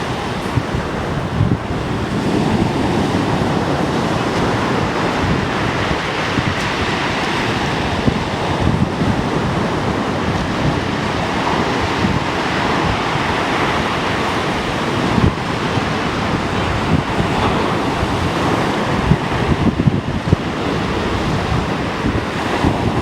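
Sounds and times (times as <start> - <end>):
waves breaking: 0.0 - 23.0
wind buffeting microphone: 0.0 - 23.0.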